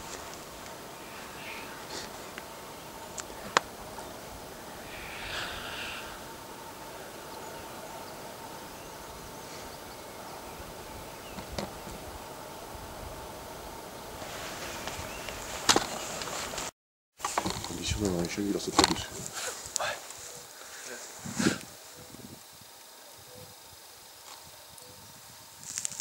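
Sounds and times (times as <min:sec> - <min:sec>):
grouse hissing call: 0:00.0 - 0:15.5, 0:17.7 - 0:25.1.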